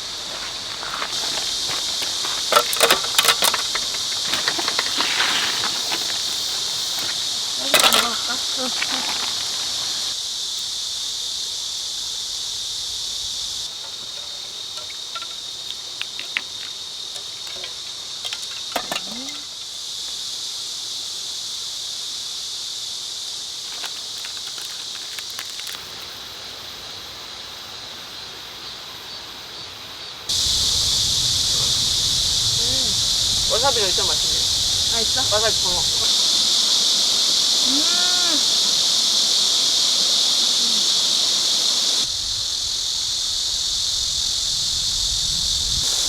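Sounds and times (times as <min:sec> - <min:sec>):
insects chorus: 0:00.0 - 0:46.0.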